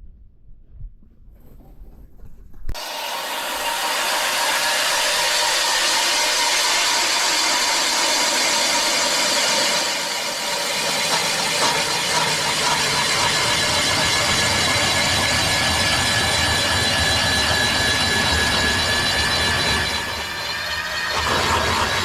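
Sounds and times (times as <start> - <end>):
engine running: 2.8 - 22.0
loud rushing hiss: 2.8 - 22.0.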